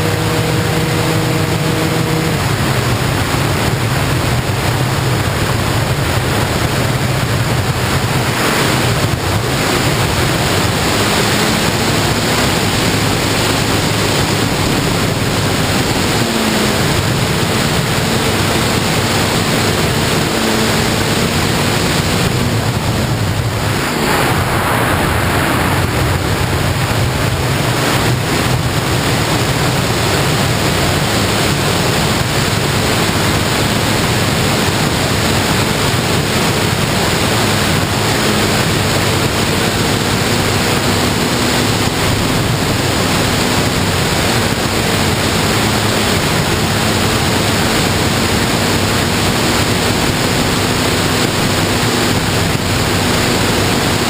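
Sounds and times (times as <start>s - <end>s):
propeller drone: 0.0s - 54.0s
wind rushing over microphone: 0.0s - 54.0s.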